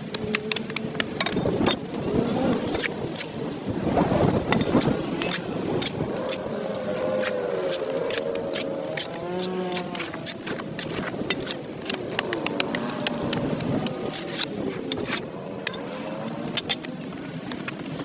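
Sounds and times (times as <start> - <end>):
hand tool scraping concrete: 0.1 - 17.8.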